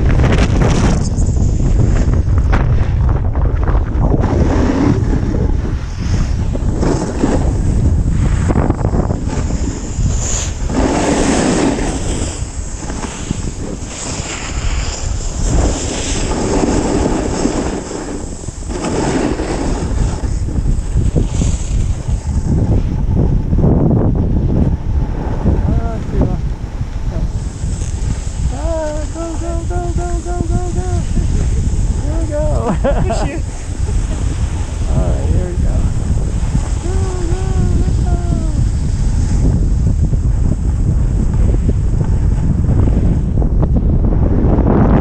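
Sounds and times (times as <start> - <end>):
snowboard scraping snow: 0.0 - 23.3, 24.3 - 45.0
wind on microphone: 0.0 - 45.0.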